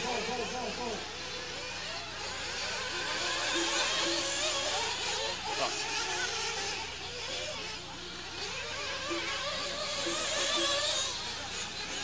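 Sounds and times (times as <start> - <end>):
rc car engines revving: 0.0 - 12.0.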